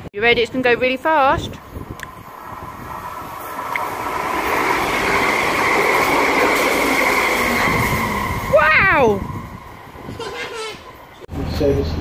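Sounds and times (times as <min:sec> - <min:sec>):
high whine of wheels on rails: 0:00.0 - 0:12.0
rushing rail noise: 0:00.0 - 0:12.0.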